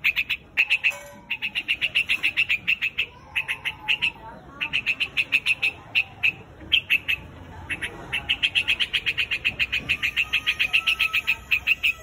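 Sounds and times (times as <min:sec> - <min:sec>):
bird calling sharp notes: 0:00.0 - 0:12.0.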